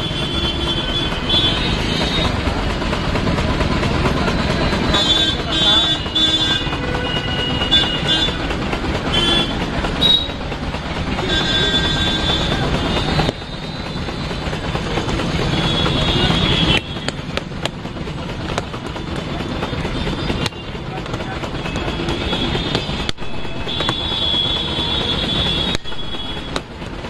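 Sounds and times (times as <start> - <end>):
road traffic noise: 0.0 - 27.0
high steady tones: 4.0 - 26.7.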